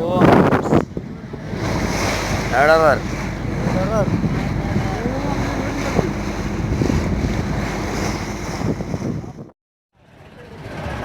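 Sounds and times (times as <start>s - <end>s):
boat engine running: 0.0s - 9.5s
sea wash: 0.0s - 9.5s
wind buffeting microphone: 0.0s - 9.5s.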